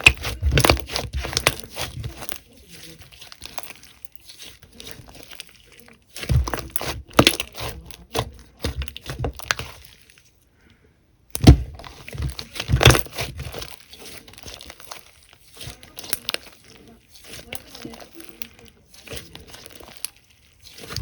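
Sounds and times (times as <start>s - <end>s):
slime squished by hand: 0.0s - 21.0s.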